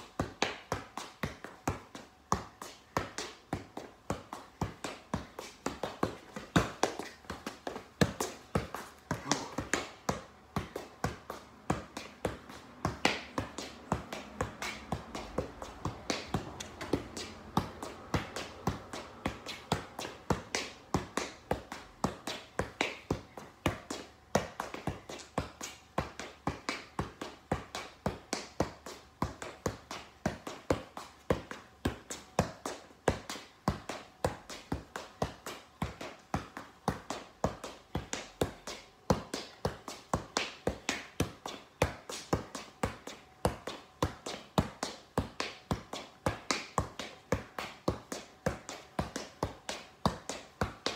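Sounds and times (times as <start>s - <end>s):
soccer ball taps on feet: 0.0s - 50.9s.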